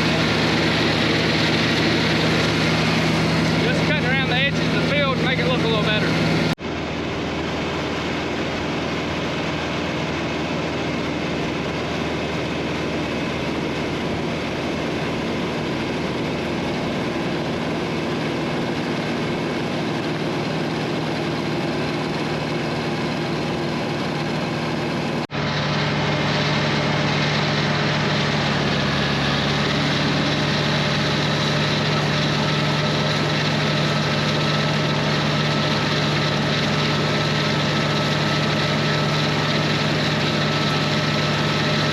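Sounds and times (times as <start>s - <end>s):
disc mower working: 0.0s - 41.9s
low hum: 0.0s - 41.9s
tractor engine running: 0.0s - 41.9s.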